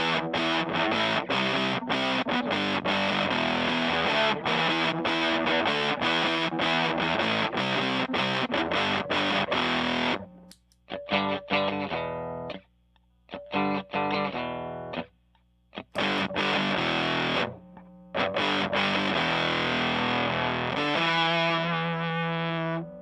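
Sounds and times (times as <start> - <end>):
distorted electric guitar chords: 0.0 - 12.6, 13.3 - 15.1, 15.8 - 23.0
electric guitar single notes: 0.0 - 12.6, 13.3 - 15.1, 15.8 - 23.0.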